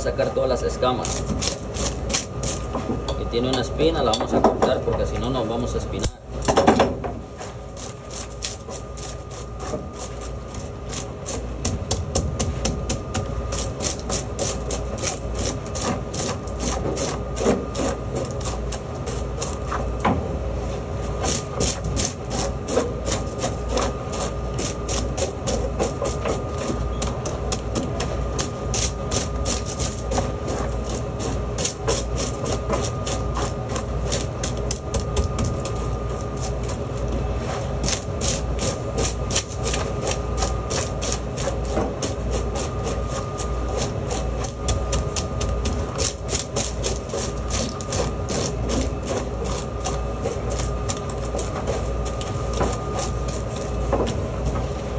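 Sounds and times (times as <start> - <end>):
knife scraping fish scales: 0.9 - 2.7, 7.4 - 19.9, 21.0 - 53.8.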